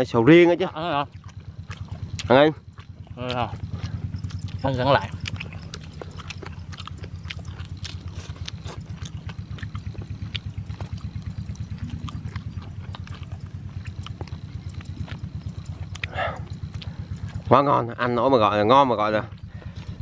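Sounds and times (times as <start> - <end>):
small engine running: 0.0 - 20.0
person chewing: 1.1 - 17.5.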